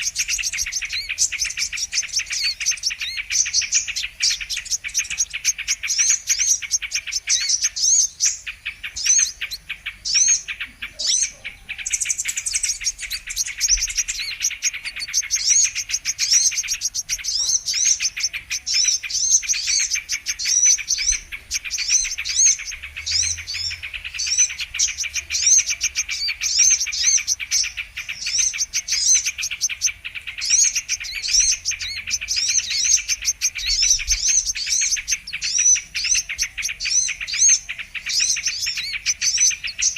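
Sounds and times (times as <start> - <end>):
bird singing high sharp chirps: 0.0 - 39.9
rapid buzzy bird trill: 0.0 - 39.9.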